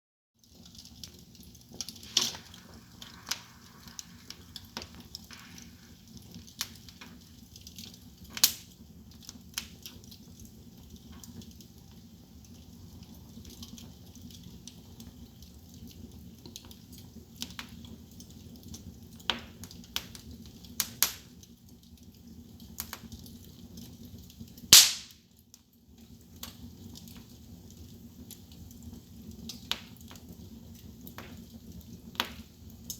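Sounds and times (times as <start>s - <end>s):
wood fire crackling and popping: 0.4s - 32.9s.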